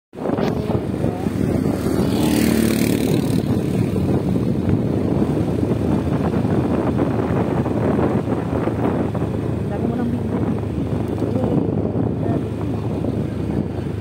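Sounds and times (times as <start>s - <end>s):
vehicle engine and road noise: 0.2s - 14.0s.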